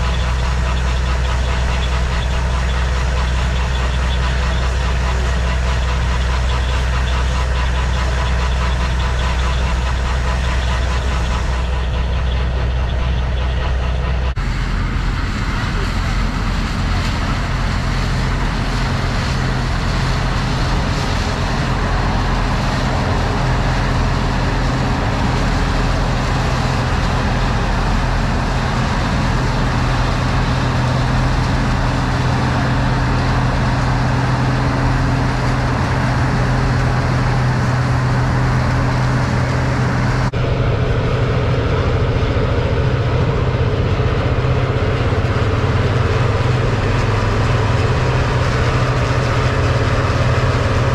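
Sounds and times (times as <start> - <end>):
farm machine engine droning: 0.0 - 50.9.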